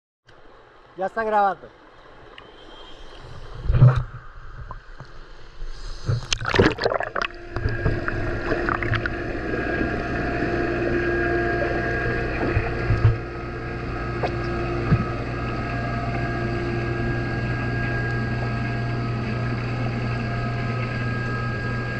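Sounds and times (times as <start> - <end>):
water splashing and sloshing: 0.3 - 21.9
steady tones: 1.0 - 21.9
underwater drone: 1.6 - 21.9.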